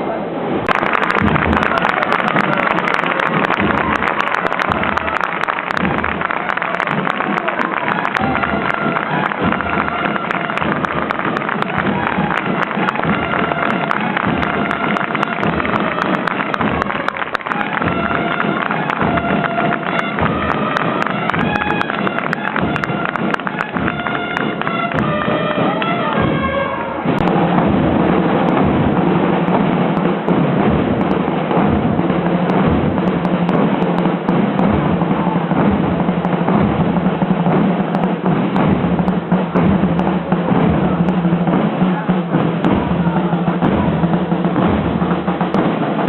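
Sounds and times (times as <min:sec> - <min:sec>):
massed drums beating: 0:00.8 - 0:46.0
wind instruments melody: 0:00.8 - 0:46.0.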